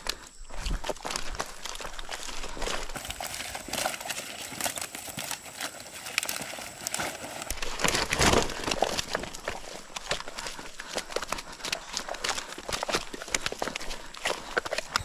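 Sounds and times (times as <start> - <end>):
mesh net rustling on stony ground: 0.0 - 15.0
fish flapping and thudding: 0.7 - 15.0.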